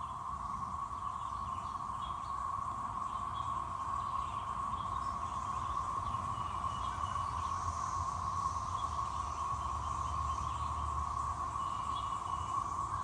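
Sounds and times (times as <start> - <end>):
cicadas droning chorus: 0.0 - 13.0.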